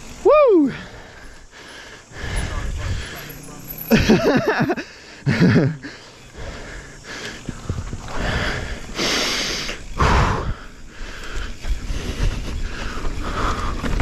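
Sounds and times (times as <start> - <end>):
person breathing hard: 0.6 - 3.5, 4.8 - 14.0.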